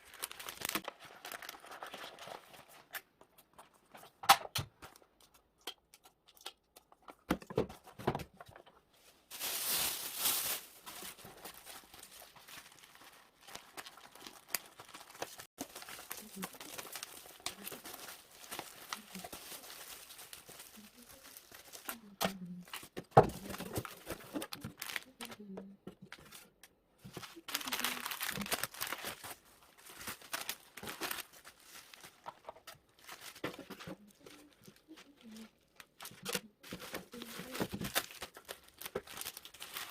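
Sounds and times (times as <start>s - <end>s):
plastic packaging crinkling: 0.0s - 3.8s, 8.5s - 26.4s, 27.0s - 39.9s.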